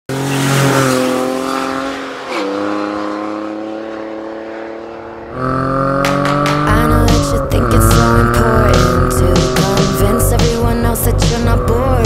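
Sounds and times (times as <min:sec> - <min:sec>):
car engine running: 0:00.1 - 0:12.0.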